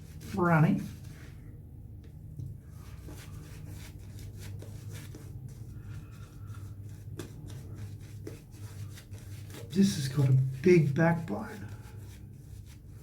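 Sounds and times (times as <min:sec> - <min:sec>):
shaving brush rubbing lather: 0:00.0 - 0:01.3, 0:02.8 - 0:13.0.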